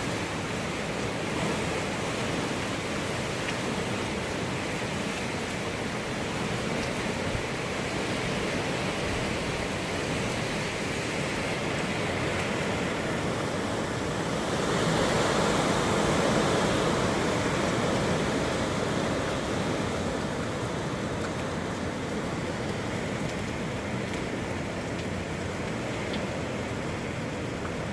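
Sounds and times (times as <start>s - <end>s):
hurricane wind blowing: 0.0s - 27.9s.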